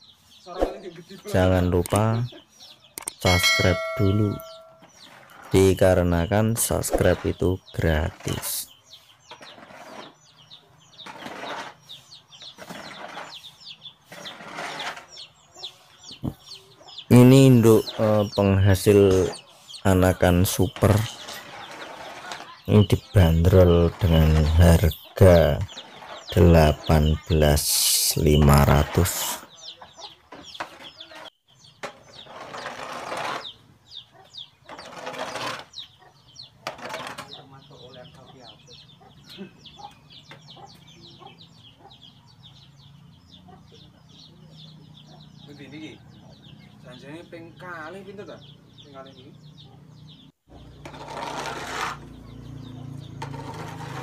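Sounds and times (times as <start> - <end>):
chickens peeping and clucking: 0.0 - 51.0
small birds chirping: 0.0 - 54.0.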